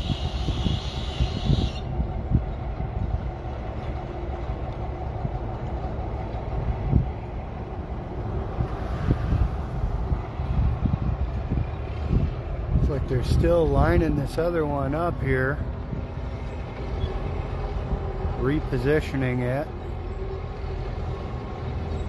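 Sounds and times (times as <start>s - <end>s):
heavy machinery rumbling: 0.0s - 22.0s.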